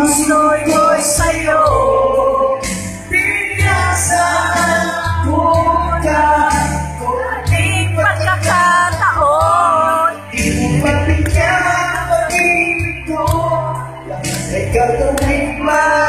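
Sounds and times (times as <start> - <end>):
singing over heavy bass beat: 0.0 - 16.0.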